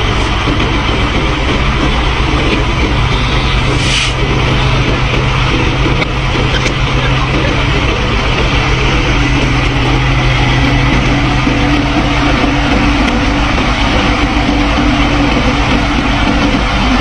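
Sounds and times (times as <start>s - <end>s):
heavy engine low hum: 0.0s - 17.0s
higher hum: 0.0s - 17.0s.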